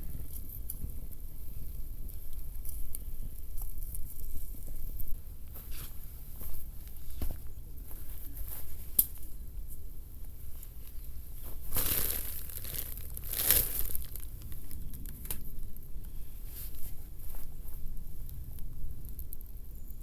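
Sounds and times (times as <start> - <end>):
crinkling and rustling: 0.0 - 20.0.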